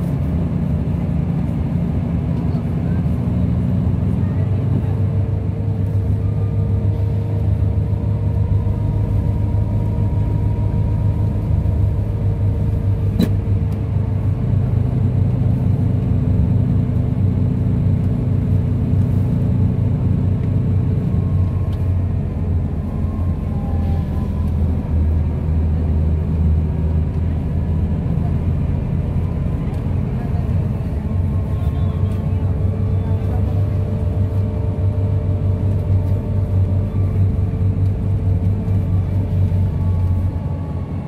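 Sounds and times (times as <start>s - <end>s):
diesel engine drone: 0.0s - 41.0s
road noise: 0.0s - 41.0s.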